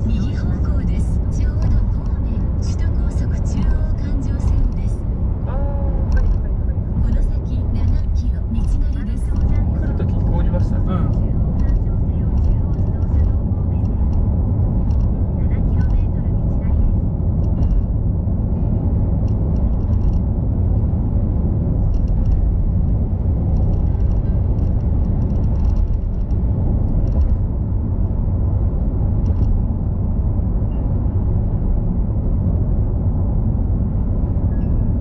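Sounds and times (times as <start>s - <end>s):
car tyres and engine rumbling: 0.0s - 35.0s.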